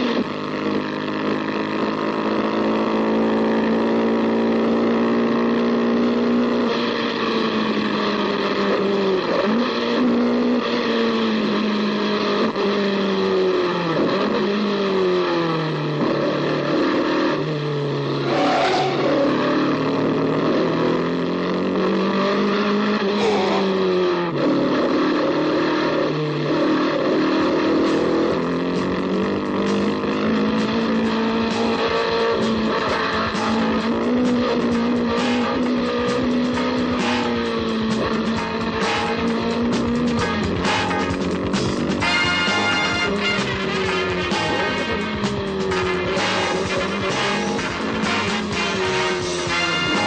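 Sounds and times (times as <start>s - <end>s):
racing car engine revving: 0.0s - 50.0s.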